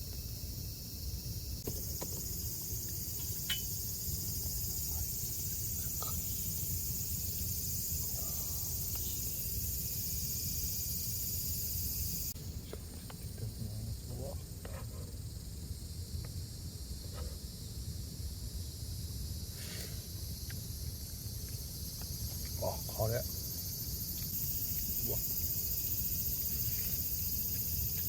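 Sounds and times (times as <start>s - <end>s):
insect chorus shrilling: 0.0s - 28.0s.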